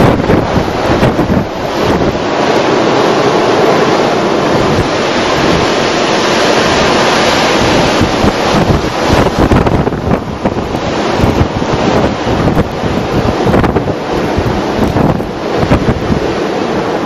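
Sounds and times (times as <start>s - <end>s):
blizzard wind hissing: 0.0s - 17.0s
wind gusts buffeting microphone: 0.0s - 17.0s.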